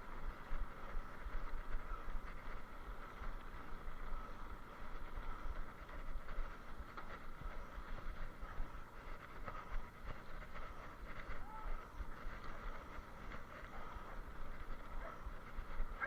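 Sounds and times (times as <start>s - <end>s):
rumble of riding on rough trail: 0.0s - 16.0s
wind buffeting microphone: 0.0s - 16.0s.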